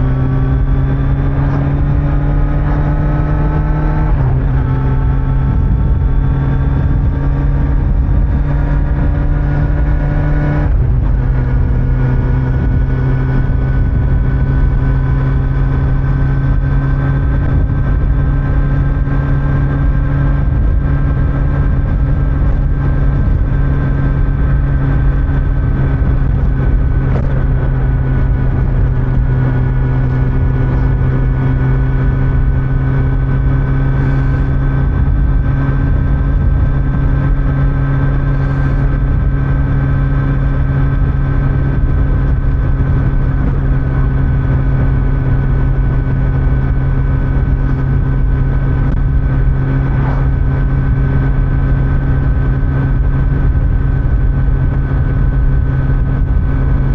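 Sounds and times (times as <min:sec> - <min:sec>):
motorcycle engine revving: 0:00.0 - 0:56.9
road noise: 0:00.0 - 0:56.9
wind noise: 0:00.0 - 0:56.9.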